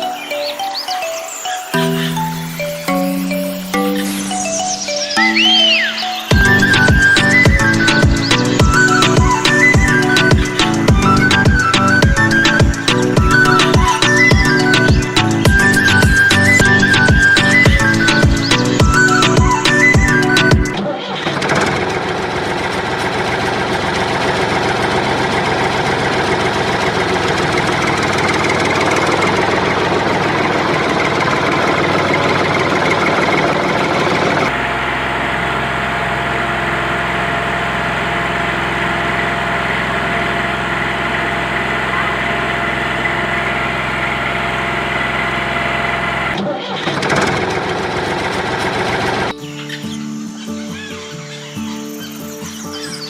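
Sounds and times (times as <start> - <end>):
engine running: 6.2 - 49.6.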